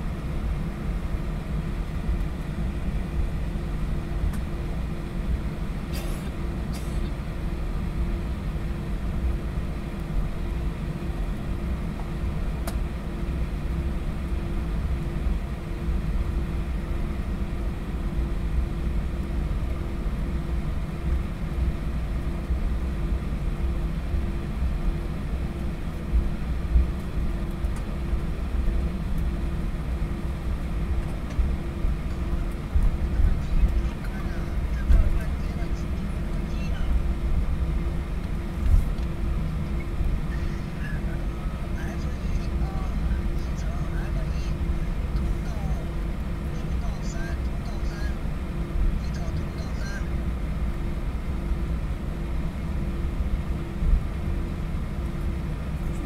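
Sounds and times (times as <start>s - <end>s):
aircraft cabin rumble: 0.0s - 56.0s
steady low hum: 0.0s - 56.0s.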